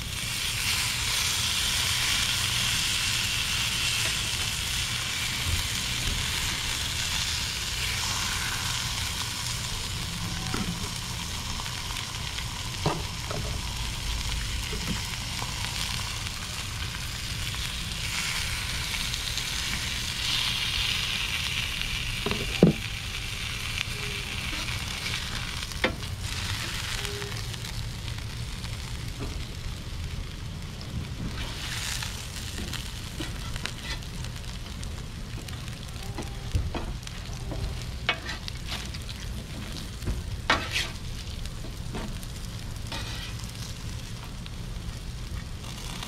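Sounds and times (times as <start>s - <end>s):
steak sizzling on a griddle: 0.0s - 46.0s.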